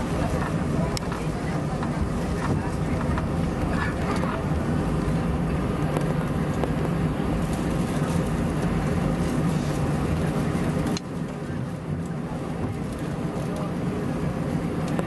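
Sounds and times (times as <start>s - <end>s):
aircraft cabin engine rumble: 0.0s - 15.0s.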